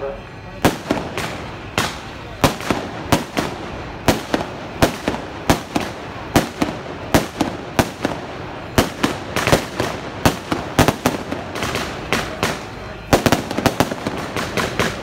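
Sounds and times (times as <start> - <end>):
fireworks bangs: 0.6 - 15.0.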